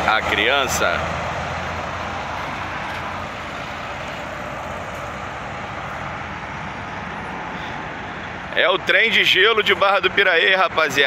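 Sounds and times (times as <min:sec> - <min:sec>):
diesel truck engine hum: 0:00.0 - 0:11.0
road and tyre noise: 0:00.0 - 0:11.0.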